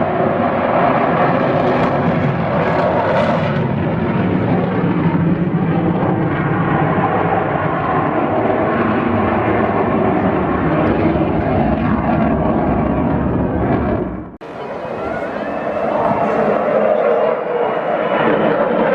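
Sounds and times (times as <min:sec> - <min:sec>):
aircraft engine noise: 0:00.0 - 0:18.9.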